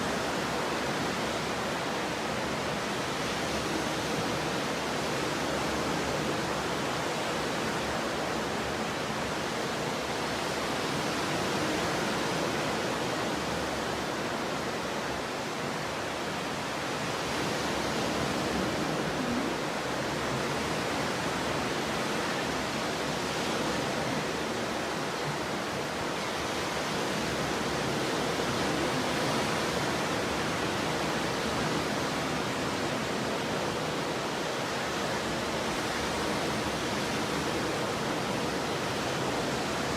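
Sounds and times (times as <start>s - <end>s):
heavy waves breaking: 0.0s - 39.9s.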